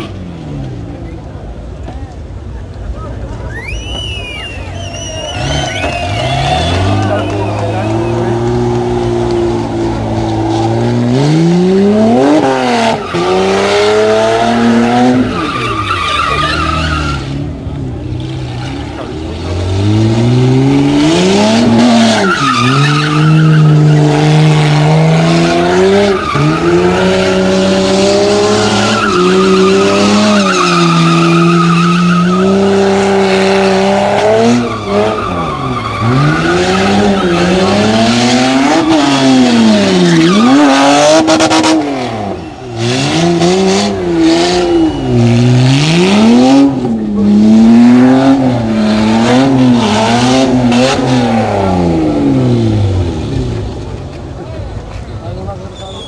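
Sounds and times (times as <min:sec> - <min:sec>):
tyres squealing on tarmac: 0:03.0 - 0:17.5, 0:18.2 - 0:52.0, 0:54.9 - 0:56.0
car engine revving: 0:04.8 - 0:54.9.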